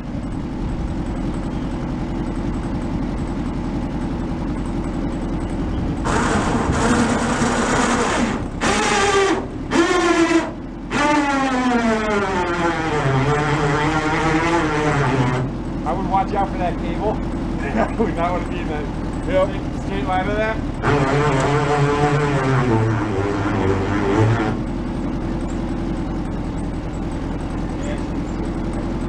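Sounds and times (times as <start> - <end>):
winch low hum: 0.0 - 29.0
winch motor whine: 0.0 - 29.0.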